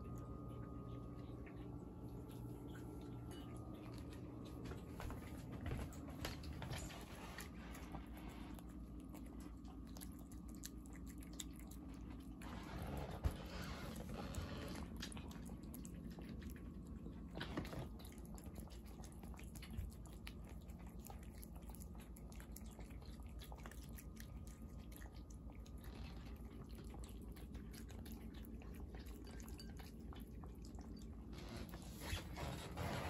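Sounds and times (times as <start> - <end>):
cats chewing and lapping food: 0.0 - 33.0.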